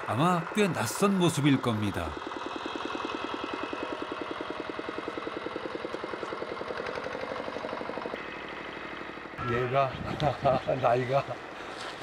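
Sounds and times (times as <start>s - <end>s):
power tiller engine chugging: 0.0s - 12.0s.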